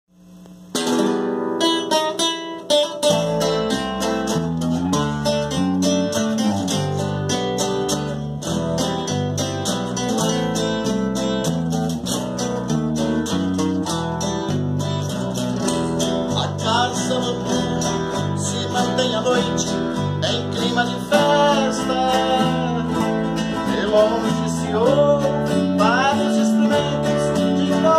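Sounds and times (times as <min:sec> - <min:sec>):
electric bass guitar: 0:00.2 - 0:27.9
classical guitars playing: 0:00.7 - 0:27.9.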